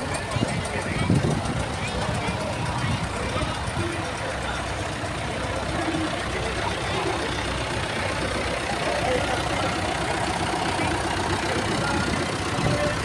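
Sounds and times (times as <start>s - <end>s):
tractor engines running: 0.0s - 13.0s.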